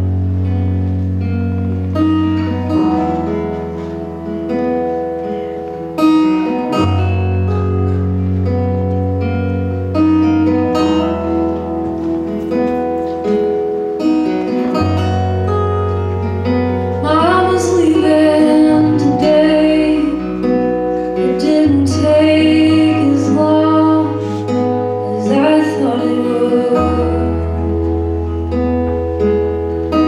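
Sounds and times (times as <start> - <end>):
folk band playing: 0.1 - 30.0.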